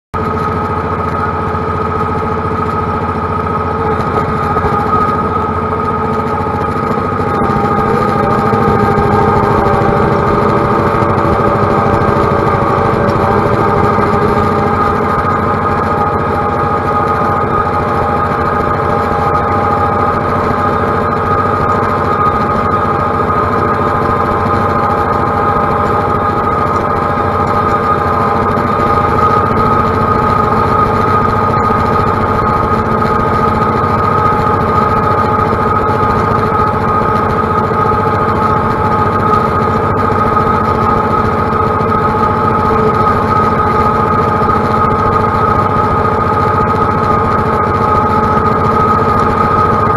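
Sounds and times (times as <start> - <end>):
tractor diesel engine running: 0.1 - 49.9.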